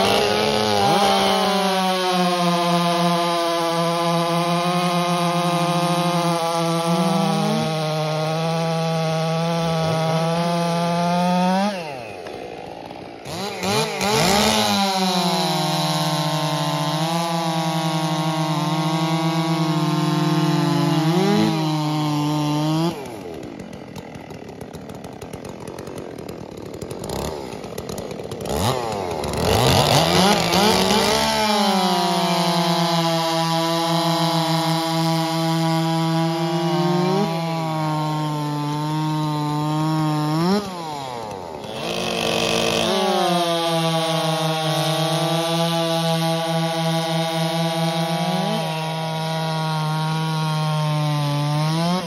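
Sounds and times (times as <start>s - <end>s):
chainsaw idling and blips: 0.0s - 52.0s
chainsaws cutting log: 0.0s - 52.0s.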